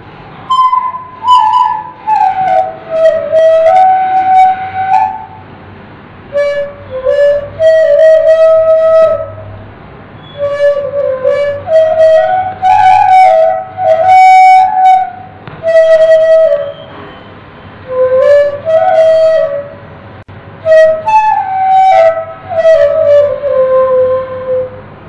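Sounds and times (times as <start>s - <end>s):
bamboo flute melody: 0.4s - 5.6s, 6.3s - 17.0s, 17.8s - 19.9s, 20.6s - 24.9s.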